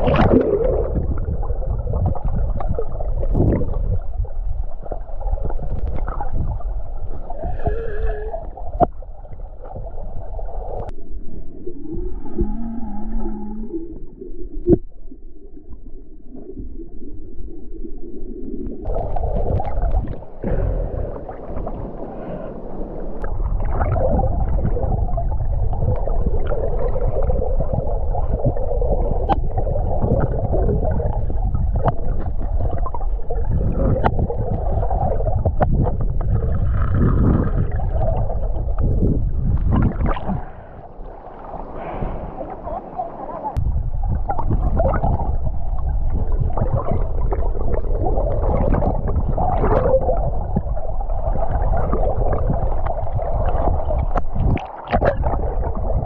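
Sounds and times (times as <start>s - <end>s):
underwater gurgling rumble: 0.0s - 56.0s.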